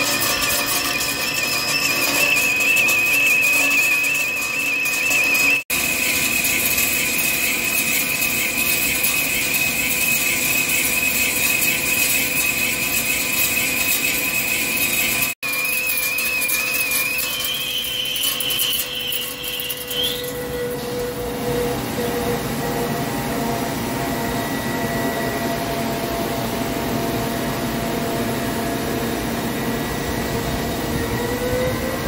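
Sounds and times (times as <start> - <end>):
lathe cutting with high-pitched whine: 0.0 - 32.0.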